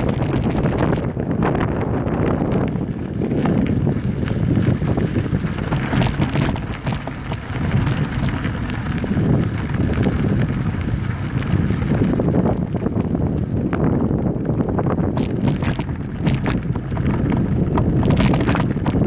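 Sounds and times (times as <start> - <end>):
stones and bike parts rattling: 0.0 - 19.0
tyres rumbling on dirt: 0.0 - 19.0
wind buffeting microphone: 0.0 - 19.0.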